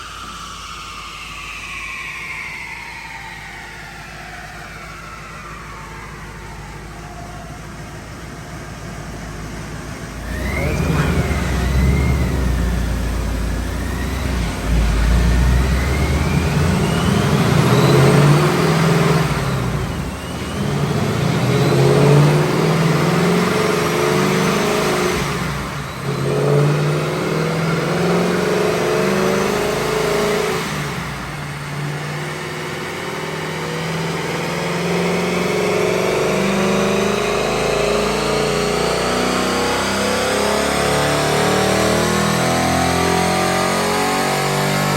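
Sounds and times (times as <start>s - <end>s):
car engine accelerating hard: 0.0s - 44.9s
supercharger whine: 0.0s - 44.9s.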